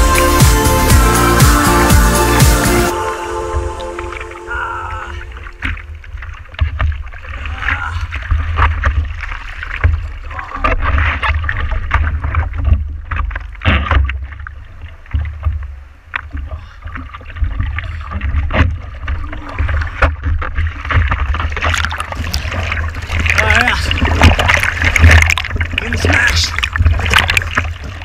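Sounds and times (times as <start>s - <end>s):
water sloshing and splashing: 3.0s - 28.0s.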